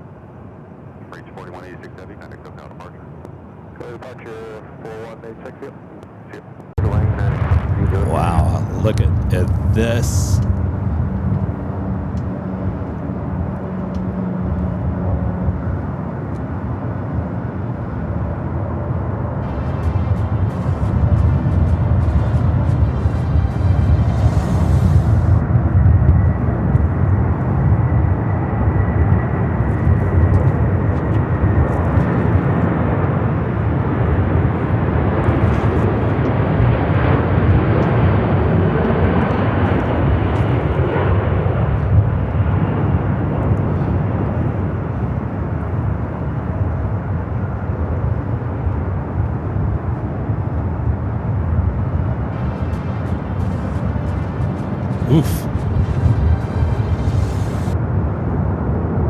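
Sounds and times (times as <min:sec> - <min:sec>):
jet aircraft engines roaring: 0:00.0 - 0:59.0.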